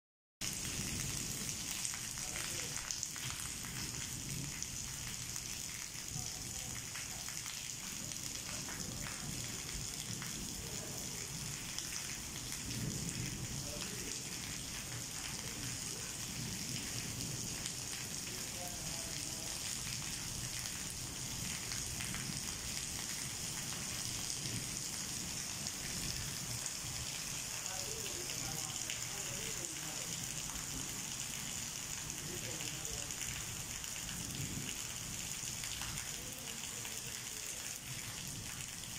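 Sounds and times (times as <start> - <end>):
heavy rain on paving and leaves: 0.4 - 38.9.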